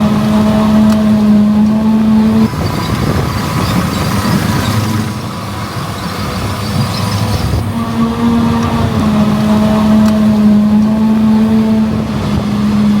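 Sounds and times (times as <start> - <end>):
diesel engine hum: 0.0 - 13.0
rough machine rumble: 0.0 - 13.0.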